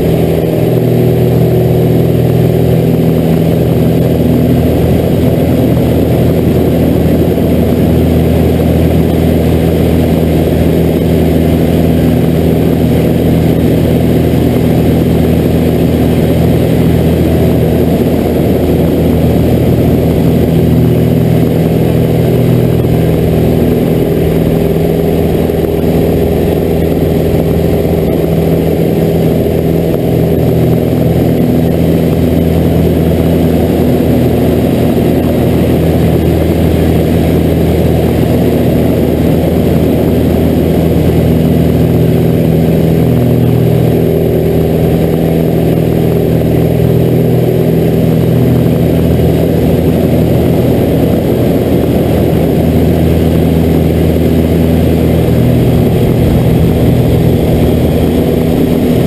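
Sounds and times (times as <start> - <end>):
propeller plane engine running: 0.0 - 59.0.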